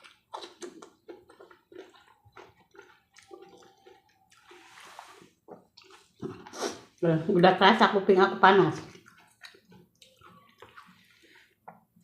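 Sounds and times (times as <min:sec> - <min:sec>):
wet chewing and mouth smacking: 0:00.0 - 0:07.0, 0:08.8 - 0:12.0.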